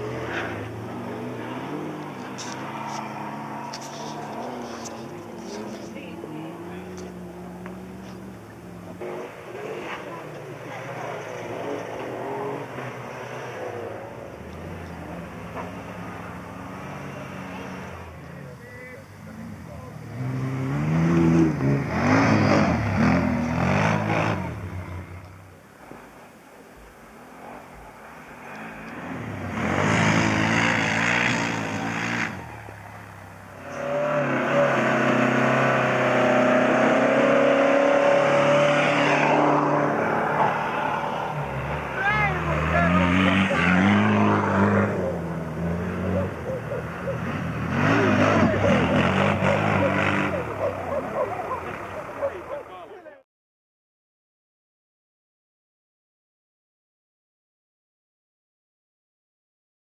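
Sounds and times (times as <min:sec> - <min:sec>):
race car engines droning: 0:00.0 - 0:53.2.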